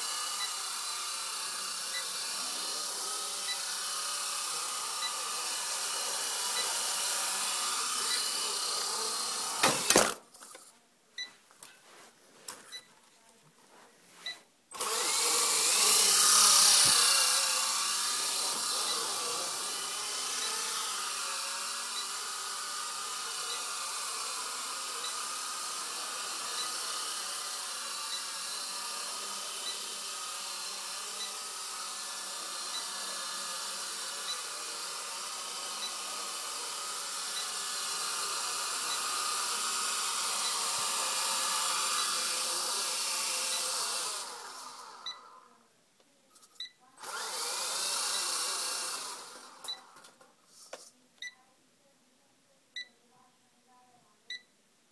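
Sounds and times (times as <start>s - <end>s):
rc helicopter rotor whine: 0.0s - 10.2s, 14.8s - 45.6s, 47.0s - 50.1s.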